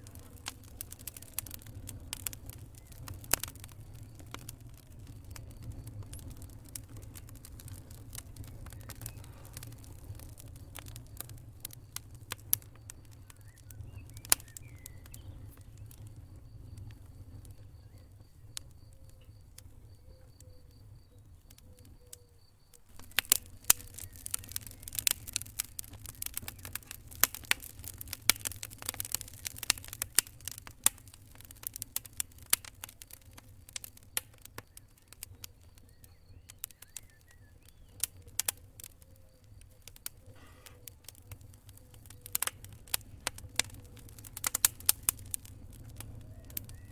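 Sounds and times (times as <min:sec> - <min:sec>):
low rumble of flame: 0:00.0 - 0:46.9
wood fire crackling and popping: 0:00.0 - 0:46.9.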